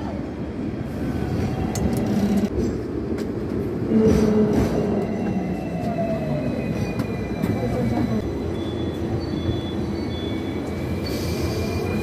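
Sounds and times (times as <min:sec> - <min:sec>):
steel wheels rumbling on rail: 0:00.0 - 0:12.0.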